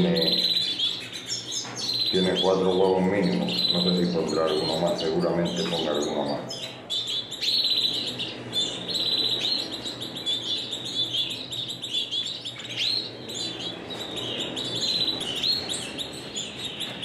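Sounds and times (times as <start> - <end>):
canaries singing: 0.0 - 17.0.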